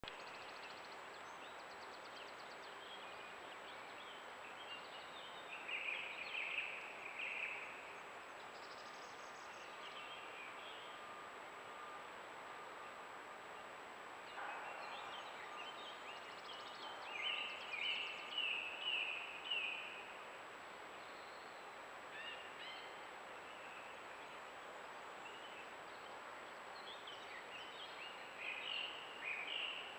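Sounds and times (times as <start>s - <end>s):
distant songbirds singing: 0.0s - 29.9s
microphone hiss: 0.0s - 29.9s.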